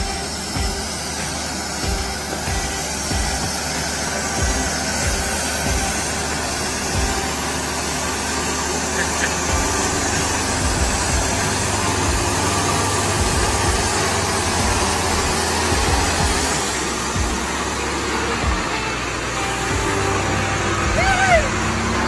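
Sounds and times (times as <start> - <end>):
even hiss: 0.0 - 22.0
heavy vehicle engine rumbling: 0.0 - 22.0.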